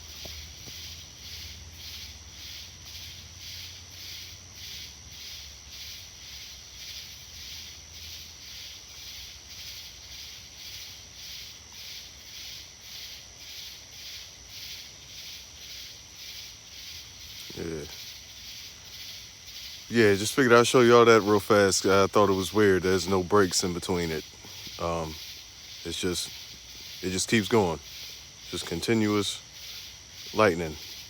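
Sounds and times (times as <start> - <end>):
night insects calling: 0.0 - 31.0.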